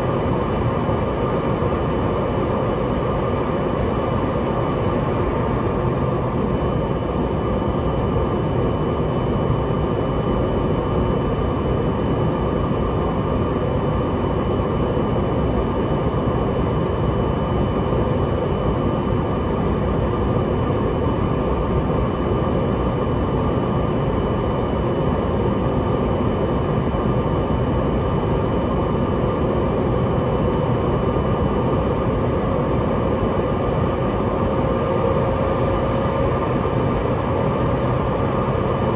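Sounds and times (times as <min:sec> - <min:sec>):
turboprop engine drone: 0:00.0 - 0:38.9.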